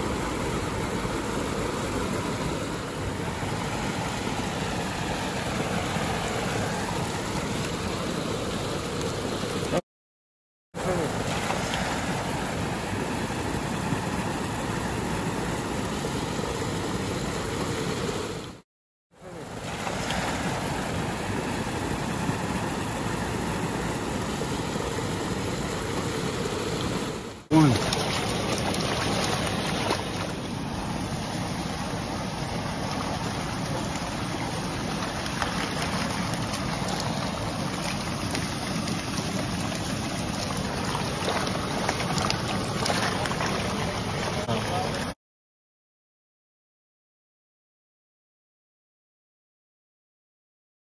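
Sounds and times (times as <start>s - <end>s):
fast-flowing water rushing: 0.0s - 9.8s, 10.8s - 18.6s, 19.4s - 45.2s.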